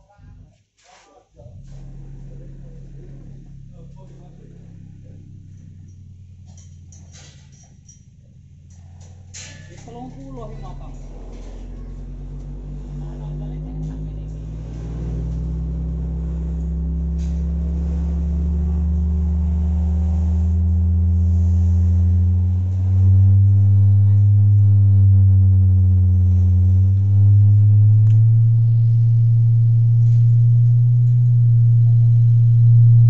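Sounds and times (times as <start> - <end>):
bass test tones: 1.4 - 33.0.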